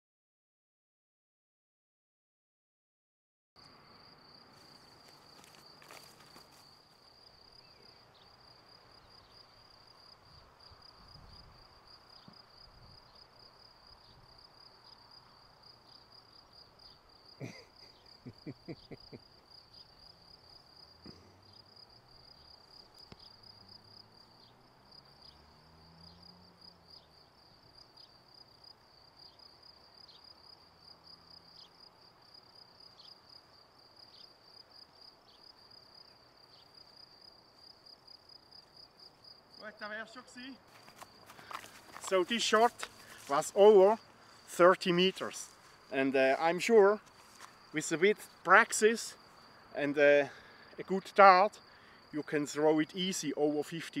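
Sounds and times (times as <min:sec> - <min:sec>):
faint crickets chirring: 0:03.6 - 0:54.0.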